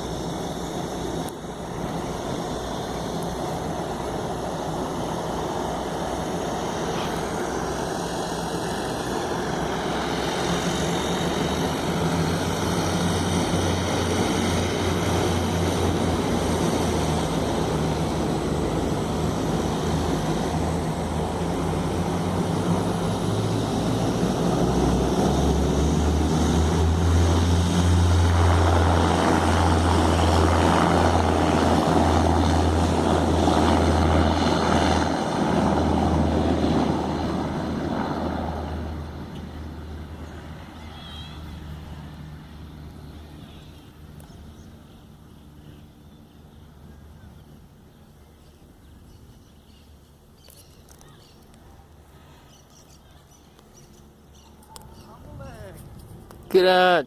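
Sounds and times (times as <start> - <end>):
low propeller hum: 0.0 - 57.0
turboprop engines running: 0.0 - 57.0.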